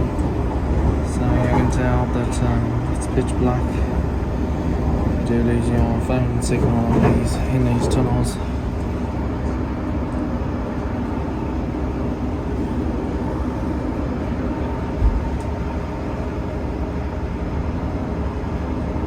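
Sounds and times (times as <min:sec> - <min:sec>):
diesel engine drone: 0:00.0 - 0:19.0
wheel and rail rumble: 0:00.0 - 0:19.0.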